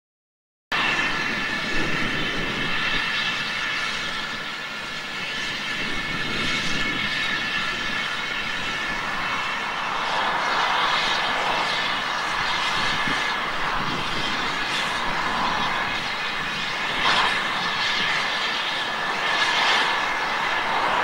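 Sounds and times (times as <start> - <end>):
steam locomotive hissing: 0.8 - 21.0.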